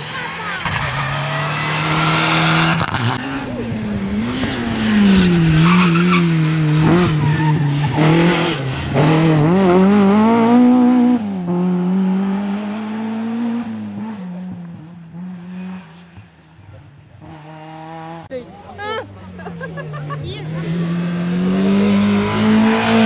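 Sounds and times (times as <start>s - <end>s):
rally car engine revving: 0.0s - 18.3s, 19.1s - 23.0s.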